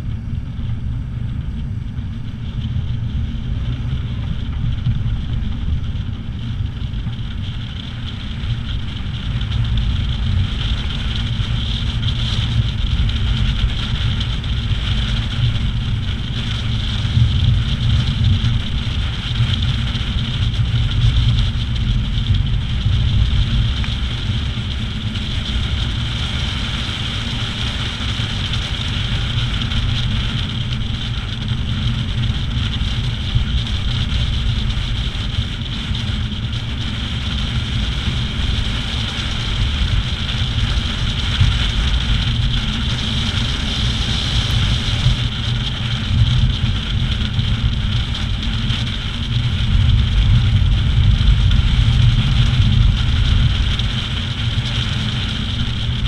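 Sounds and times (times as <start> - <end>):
wheels rolling on asphalt: 0.0 - 56.0
wind rushing over microphone: 0.0 - 56.0.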